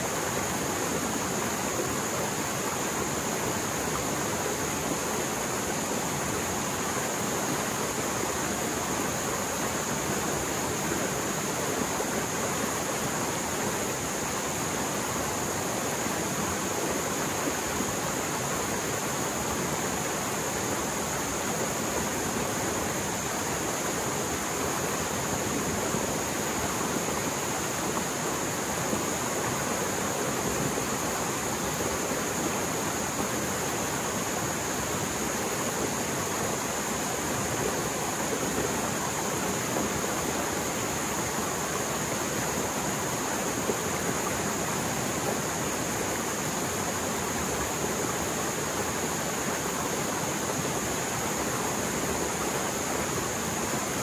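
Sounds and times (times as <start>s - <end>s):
stream rushing water: 0.0s - 54.0s.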